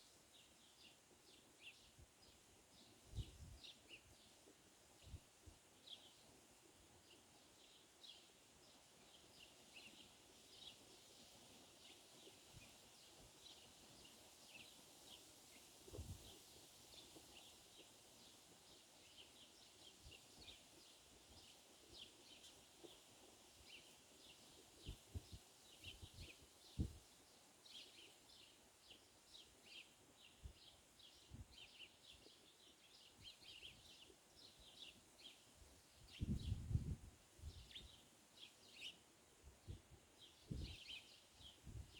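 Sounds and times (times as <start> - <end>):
faint steady hiss: 0.0 - 41.9
small birds chirping: 0.0 - 41.9.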